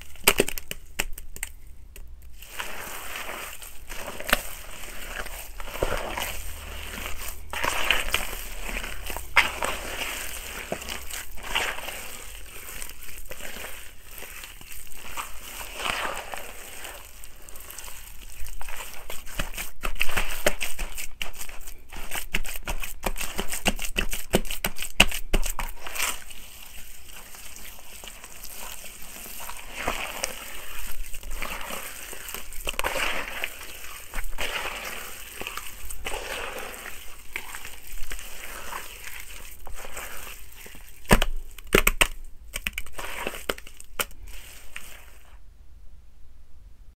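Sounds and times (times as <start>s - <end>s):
hands kneading wet gritty soil: 0.0s - 45.4s.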